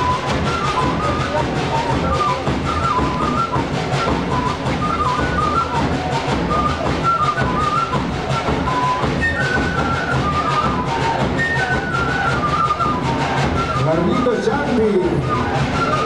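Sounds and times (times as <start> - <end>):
steady drumbeat: 0.0 - 16.0.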